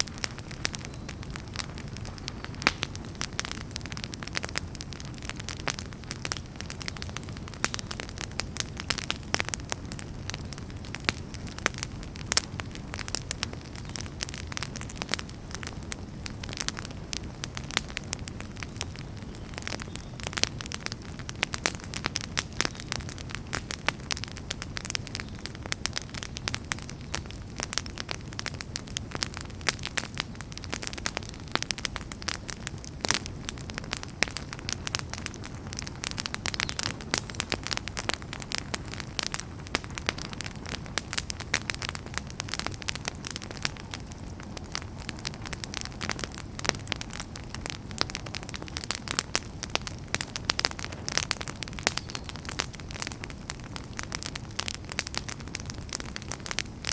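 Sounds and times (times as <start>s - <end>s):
campfire crackling and popping: 0.0s - 56.9s
low rumble of flames: 0.0s - 56.9s.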